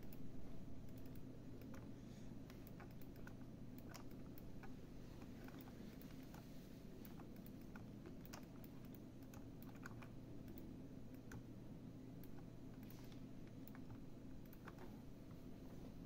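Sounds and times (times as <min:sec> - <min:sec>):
keyboard and mouse clicking: 0:00.0 - 0:11.5, 0:12.2 - 0:15.0
low steady hum: 0:00.0 - 0:16.0.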